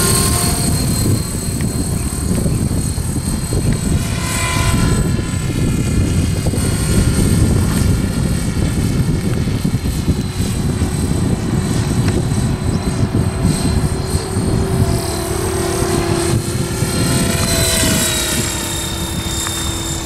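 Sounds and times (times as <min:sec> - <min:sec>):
high whine: 0:00.0 - 0:20.0
model helicopter rotor noise: 0:00.0 - 0:20.0.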